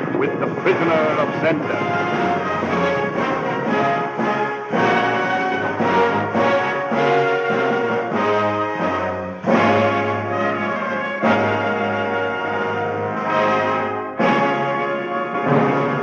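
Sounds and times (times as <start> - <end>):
orchestral music with loud brass: 0.0 - 16.0.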